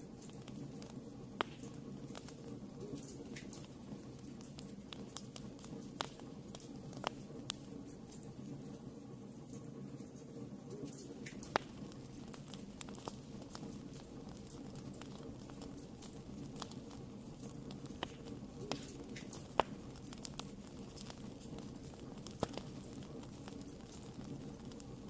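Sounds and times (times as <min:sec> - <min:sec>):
fire crackling and popping: 0:00.0 - 0:25.0
flames rushing in fireplace: 0:00.0 - 0:25.0.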